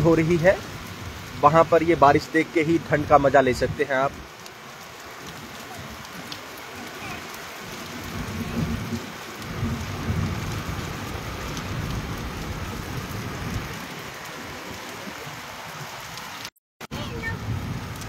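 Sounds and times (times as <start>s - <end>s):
heavy rain on concrete roof: 0.0s - 18.0s.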